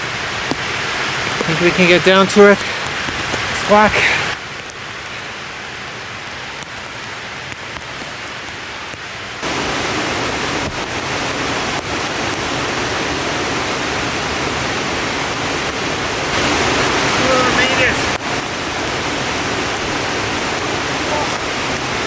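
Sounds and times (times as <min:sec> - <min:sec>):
creek and waterfall rushing: 0:00.0 - 0:22.0.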